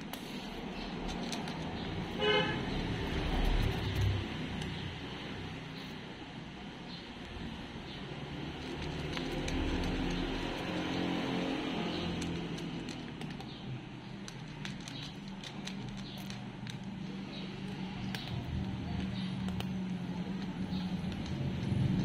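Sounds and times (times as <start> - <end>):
cat crunching dry kibble: 0.0 - 2.1, 2.8 - 4.8, 8.2 - 22.0.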